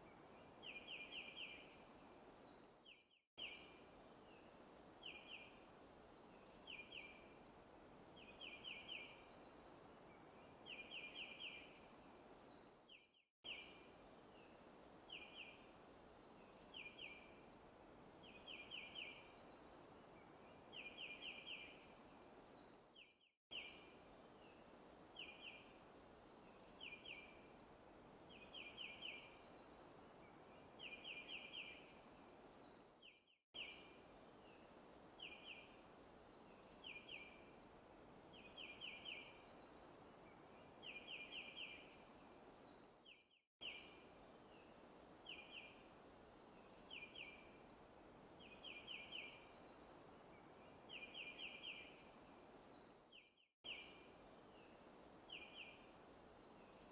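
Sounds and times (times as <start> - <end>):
soft steady hiss: 0.0 - 56.9.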